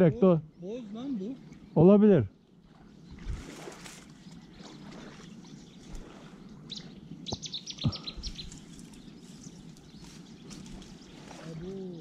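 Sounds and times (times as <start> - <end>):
steady outdoor hiss: 0.0 - 12.0
small bird chirping: 0.4 - 12.0.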